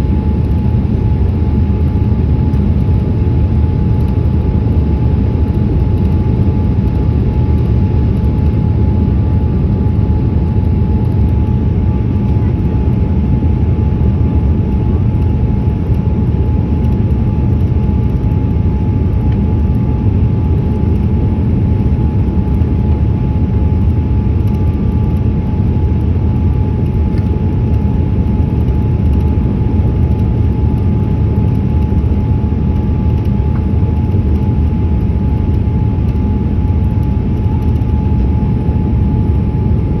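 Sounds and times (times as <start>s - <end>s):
airliner engine rumble: 0.0s - 40.0s.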